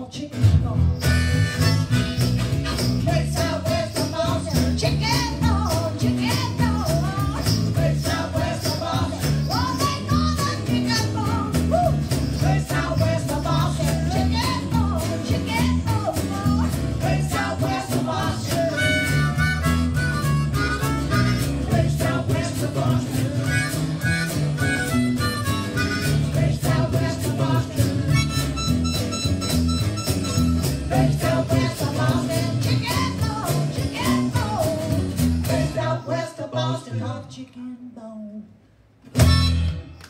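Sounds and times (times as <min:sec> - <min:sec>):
blues-rock band playing: 0:00.4 - 0:35.8, 0:39.1 - 0:40.0
harmonica chords: 0:01.0 - 0:04.3, 0:05.5 - 0:33.4, 0:39.2 - 0:40.0.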